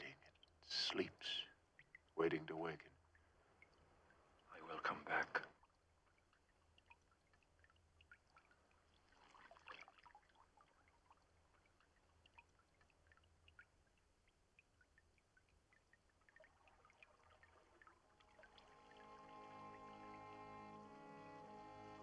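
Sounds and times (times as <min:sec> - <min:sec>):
river water trickling and dripping: 0:00.0 - 0:22.0.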